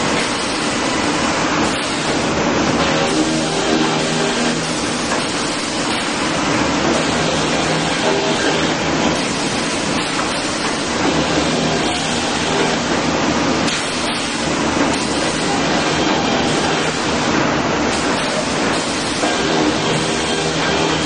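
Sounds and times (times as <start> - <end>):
conveyor machinery noise: 0.0 - 21.0.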